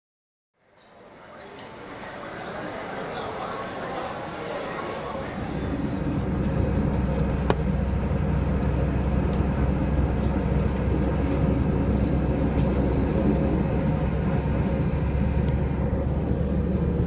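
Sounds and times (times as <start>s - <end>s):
airliner cabin rumble and hum: 1.5s - 17.0s.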